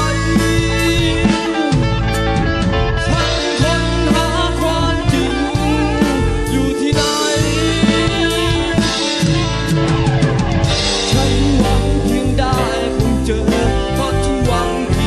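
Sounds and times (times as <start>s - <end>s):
drum kit: 0.0s - 15.0s
electric guitar: 0.0s - 15.0s
rock band playing: 0.0s - 15.0s
strong bass: 0.0s - 15.0s.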